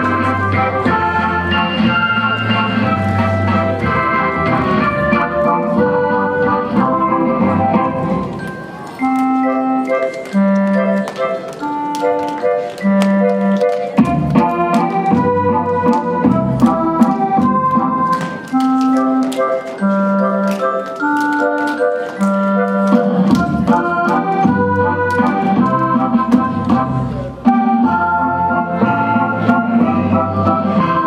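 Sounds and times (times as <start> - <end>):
instrumental dance music: 0.0 - 31.0.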